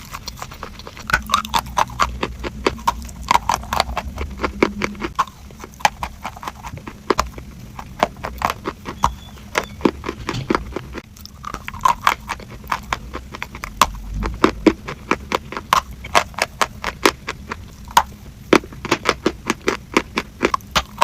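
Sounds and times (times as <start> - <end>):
crunchy eating sounds: 0.0 - 21.0.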